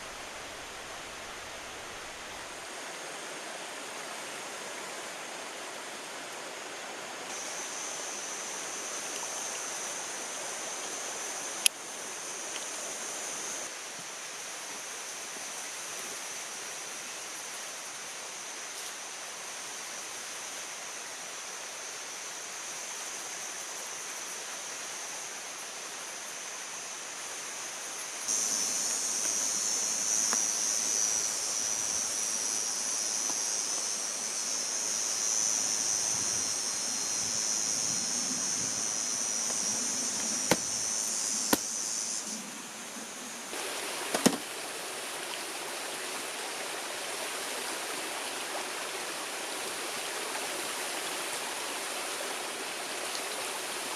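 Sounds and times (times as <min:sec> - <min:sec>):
high hiss: 0:00.0 - 0:53.9
rushing water: 0:00.0 - 0:53.9.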